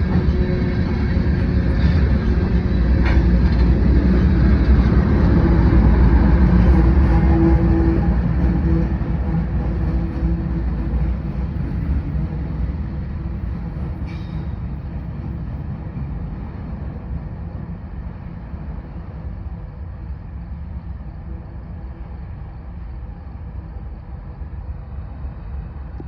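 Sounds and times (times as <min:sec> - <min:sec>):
train rolling by: 0:00.0 - 0:26.0.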